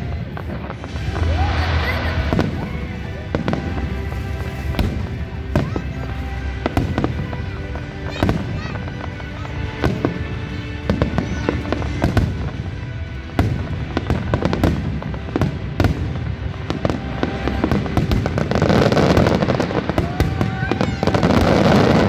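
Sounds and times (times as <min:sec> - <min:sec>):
fireworks bursting with sharp bangs: 0:00.0 - 0:22.0
fireworks crackle: 0:00.0 - 0:22.0.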